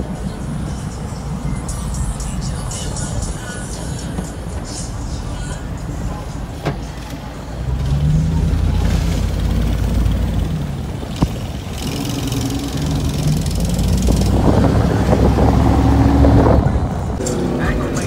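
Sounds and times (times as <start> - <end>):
pickup truck engine rumbling: 0.0 - 18.0.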